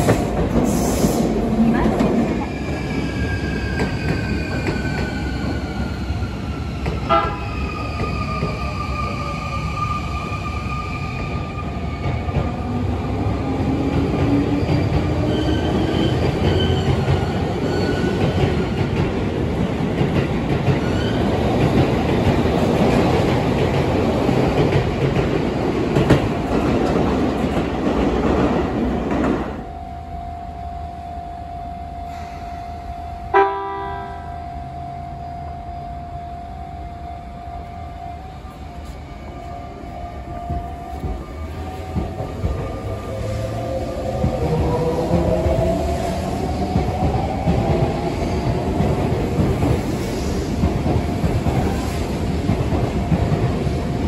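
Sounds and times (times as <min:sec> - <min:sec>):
train wheels rumbling: 0:00.0 - 0:29.6, 0:38.4 - 0:54.0.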